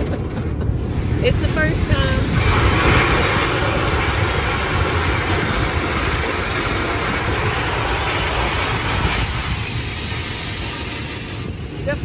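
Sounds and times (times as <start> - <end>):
rotating brushes scrubbing car: 0.6 - 12.0
water jets spraying: 0.8 - 12.0.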